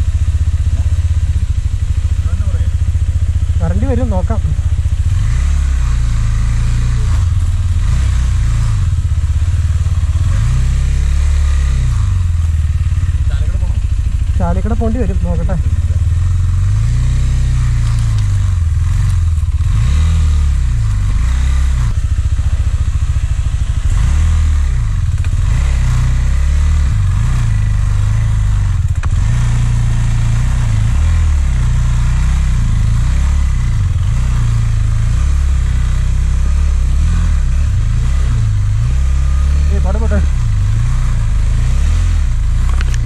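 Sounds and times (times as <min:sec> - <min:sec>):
heavy low rumble: 0:00.0 - 0:43.0
motorcycle engine revving: 0:00.0 - 0:43.0.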